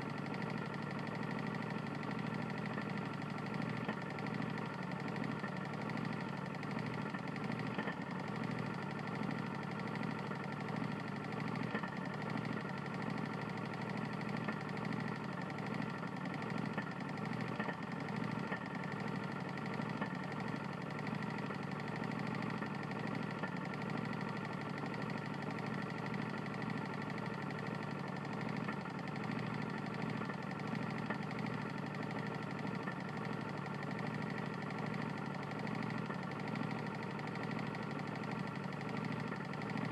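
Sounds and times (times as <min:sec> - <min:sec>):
lawn mower engine knocking: 0:00.1 - 0:39.9.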